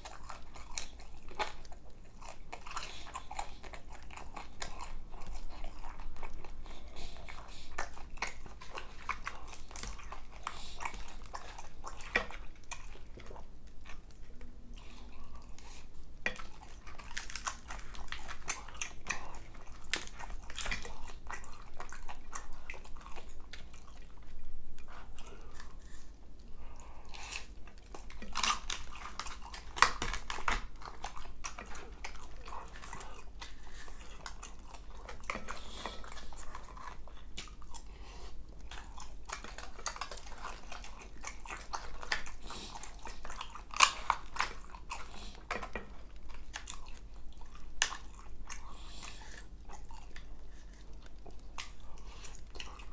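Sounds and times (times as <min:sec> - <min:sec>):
chewing and crunching food: 0:00.0 - 0:52.9.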